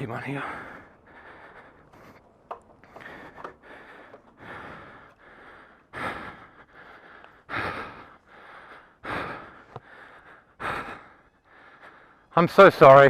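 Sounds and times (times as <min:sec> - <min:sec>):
person breathing heavily: 0:00.0 - 0:12.4.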